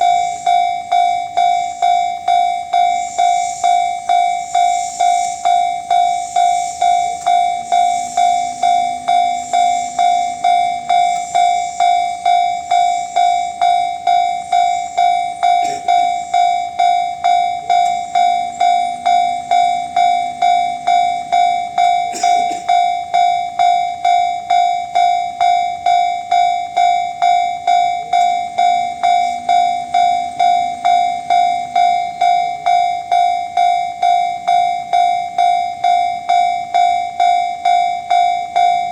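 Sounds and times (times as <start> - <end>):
level crossing alarm ringing: 0.0 - 38.9.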